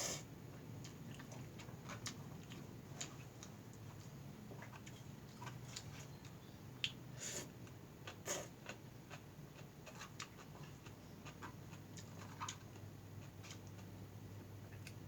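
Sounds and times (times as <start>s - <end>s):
person chewing noodles: 0.8s - 13.9s.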